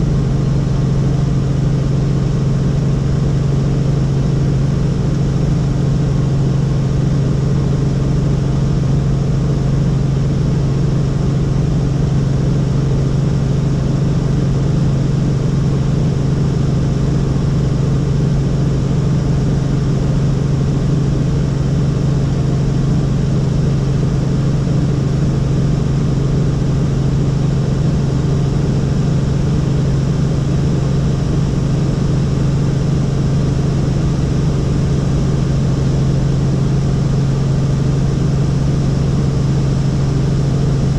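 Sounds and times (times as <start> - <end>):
helicopter engine and rotors droning: 0.0 - 40.9.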